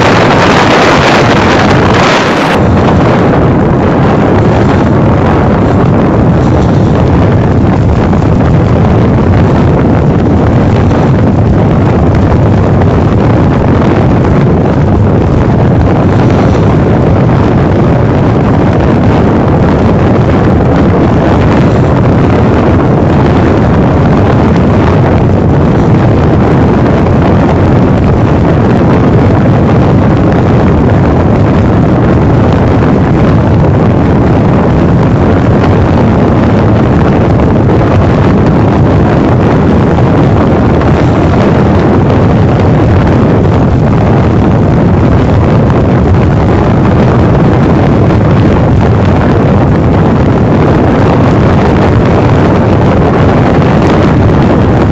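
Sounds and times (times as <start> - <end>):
wind-like rushing hiss: 0.0 - 54.9.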